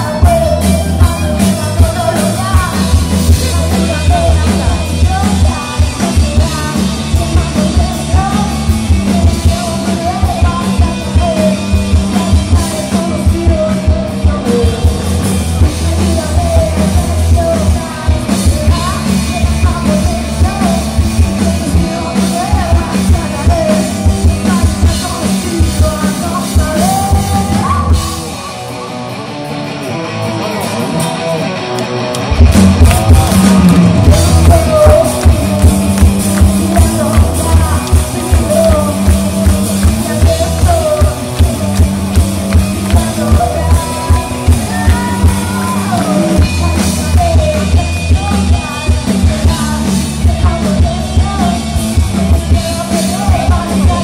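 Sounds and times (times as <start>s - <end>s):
woman singing: 0.0s - 28.6s, 32.9s - 54.0s
drums: 0.0s - 54.0s
electric guitar: 0.0s - 54.0s.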